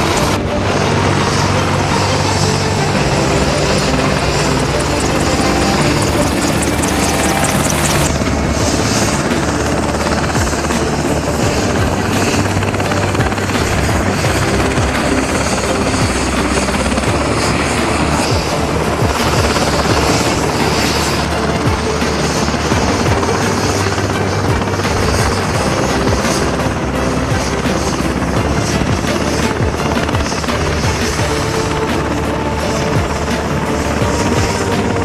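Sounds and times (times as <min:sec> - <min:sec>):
helicopter rotor and turbine: 0:00.0 - 0:35.0.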